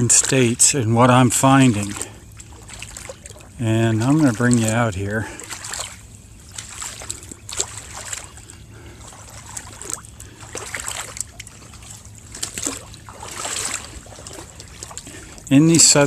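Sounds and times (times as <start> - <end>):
footsteps splashing through water: 0.0 - 16.0.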